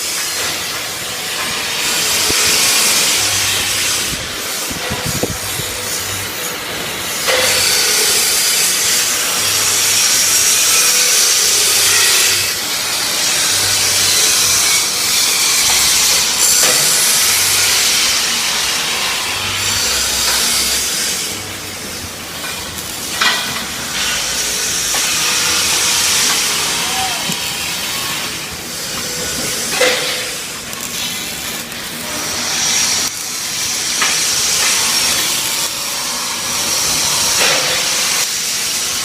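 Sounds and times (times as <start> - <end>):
welding arc hissing: 0.0 - 39.0.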